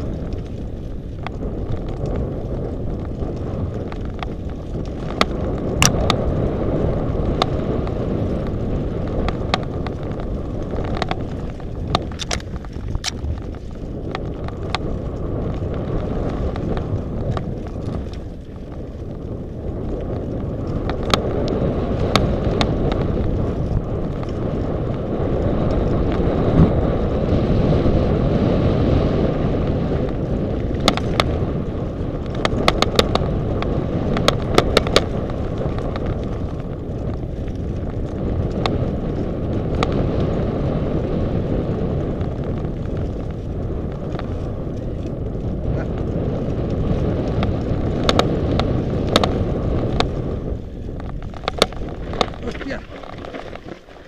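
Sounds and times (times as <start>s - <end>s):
bike rattling over stones: 0.0s - 54.0s
bike tyre noise on dirt: 0.0s - 54.0s
wind rumble on microphone: 0.0s - 54.0s.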